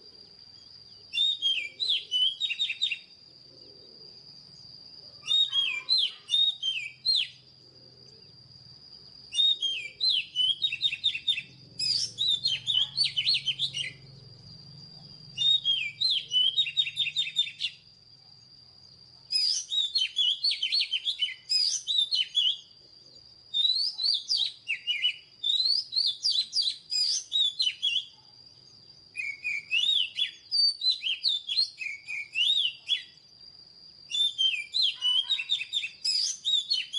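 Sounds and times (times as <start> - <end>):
bird singing whistled notes: 0.0 - 36.9
faint high-pitched whine: 0.0 - 36.9.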